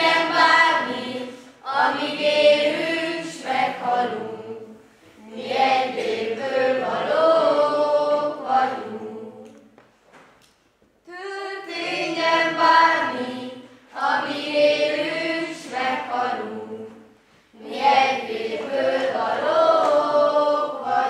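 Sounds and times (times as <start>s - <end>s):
children singing in unison: 0.0s - 9.6s, 11.1s - 21.0s.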